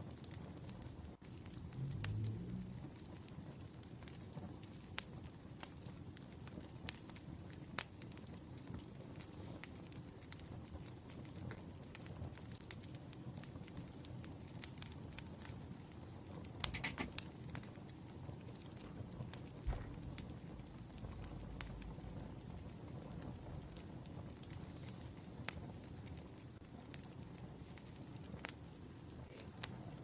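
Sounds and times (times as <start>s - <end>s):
firewood crackling and popping: 0.0s - 30.0s
low rumble of flames: 0.0s - 30.0s.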